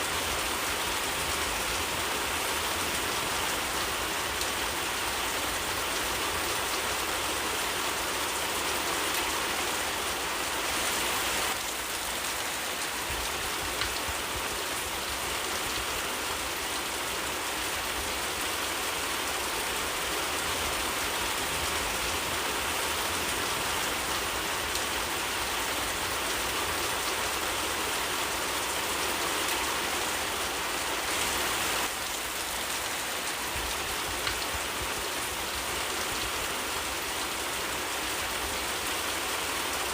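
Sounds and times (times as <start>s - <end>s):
steady rainfall in forest: 0.0s - 39.9s.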